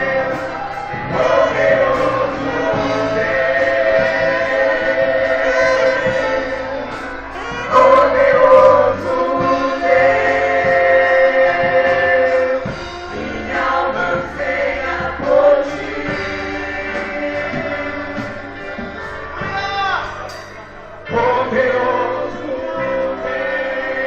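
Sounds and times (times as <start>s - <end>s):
vocal group singing gospel: 0.0s - 24.0s.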